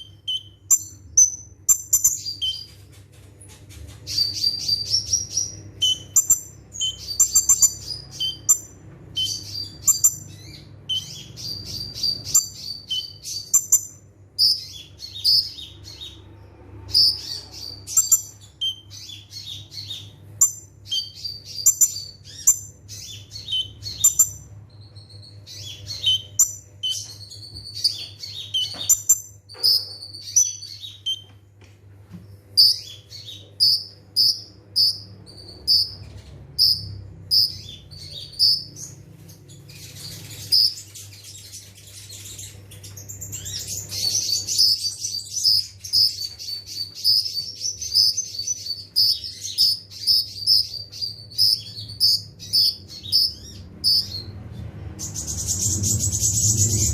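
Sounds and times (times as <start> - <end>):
bird chirping and twittering: 0.0 - 56.9
steady low hum: 0.0 - 56.9.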